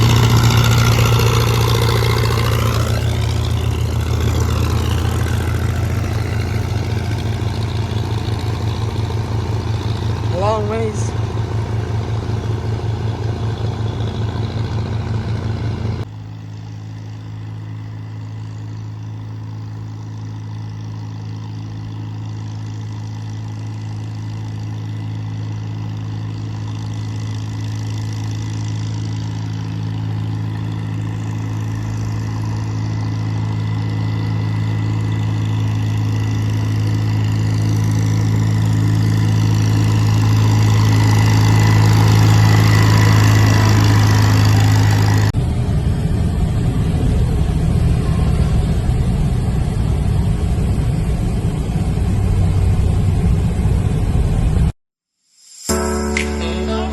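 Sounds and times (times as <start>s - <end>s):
tractor engine running: 0.0s - 54.7s.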